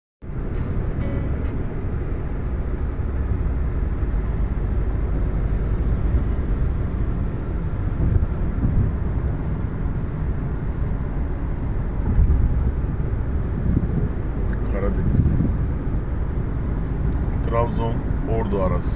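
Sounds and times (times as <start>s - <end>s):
car tyres and engine rumble: 0.2s - 18.9s.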